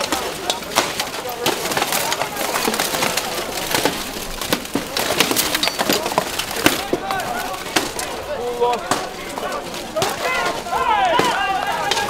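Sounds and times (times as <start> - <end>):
weapons clanging on armour: 0.0 - 12.0.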